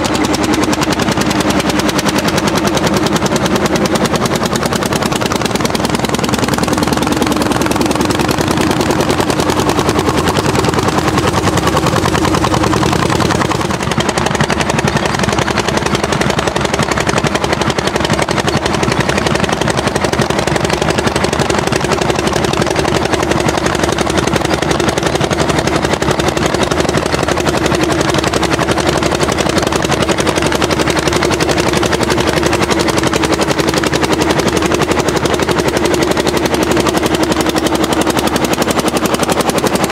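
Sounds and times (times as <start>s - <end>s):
tractor engine working hard: 0.0s - 39.9s.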